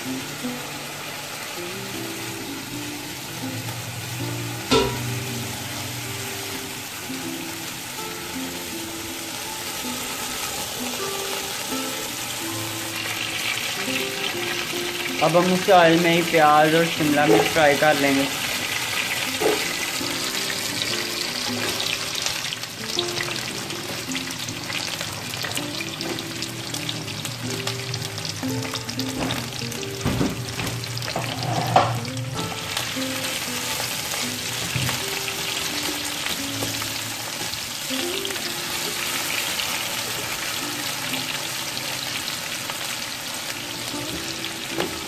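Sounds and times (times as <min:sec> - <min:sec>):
vegetables sizzling in hot oil: 0:00.0 - 0:45.0.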